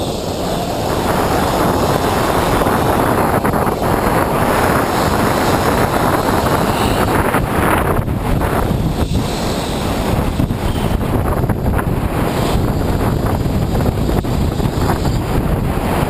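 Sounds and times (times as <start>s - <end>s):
heavy wind buffeting microphone: 0.0s - 16.0s
tram running rumble: 0.0s - 16.0s.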